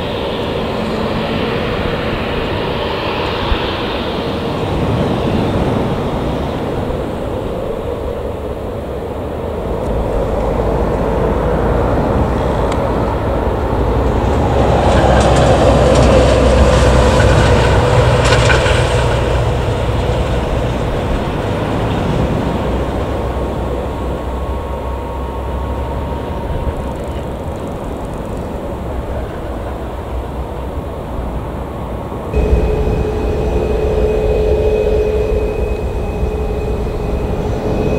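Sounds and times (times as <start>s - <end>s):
jet engines whining: 0.0s - 37.9s.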